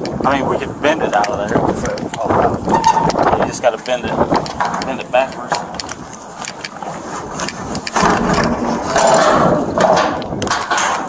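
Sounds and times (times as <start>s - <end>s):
metal creaking and clanking: 0.0s - 11.0s.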